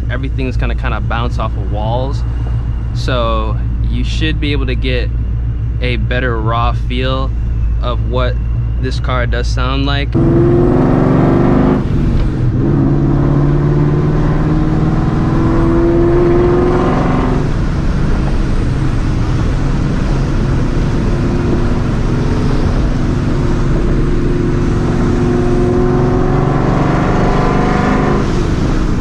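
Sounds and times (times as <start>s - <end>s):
car engine revving through loud exhaust: 0.0s - 29.0s.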